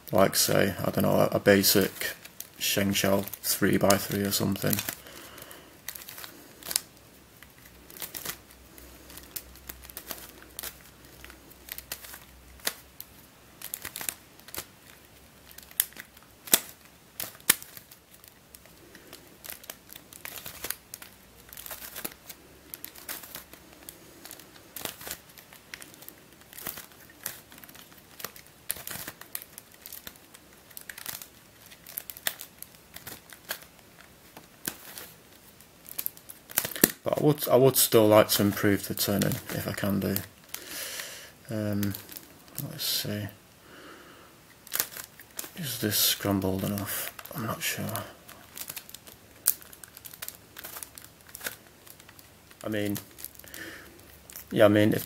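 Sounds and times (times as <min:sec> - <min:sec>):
plastic puzzle clicking and scraping: 0:01.0 - 0:40.6, 0:41.8 - 0:43.0, 0:44.5 - 0:55.0.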